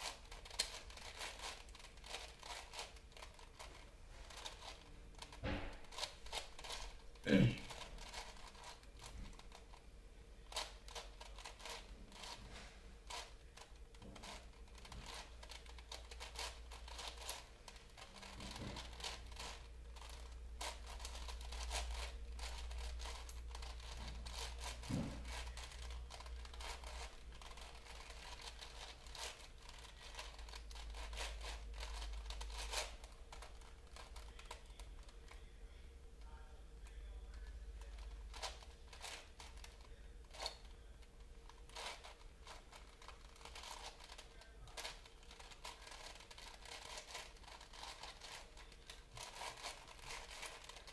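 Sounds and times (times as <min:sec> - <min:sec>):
puzzle cube clicking and rattling: 0:00.0 - 0:09.8, 0:10.5 - 0:35.1, 0:37.4 - 0:50.9.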